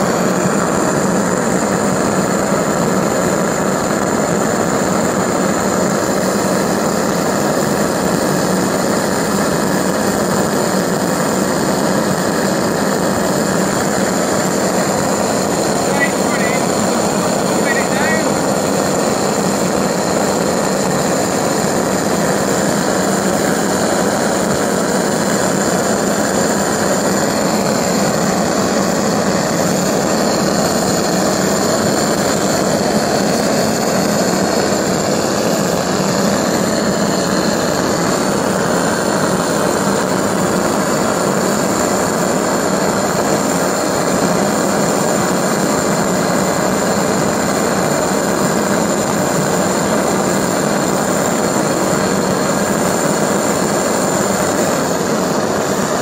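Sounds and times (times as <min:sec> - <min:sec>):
pulse jet engine roaring: 0:00.0 - 0:56.0.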